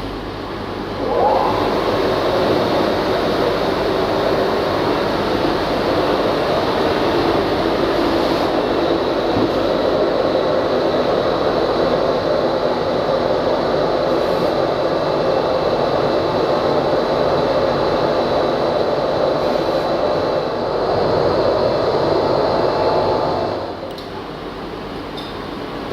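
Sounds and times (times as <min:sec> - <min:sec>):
industrial vacuum running: 0:00.0 - 0:25.9.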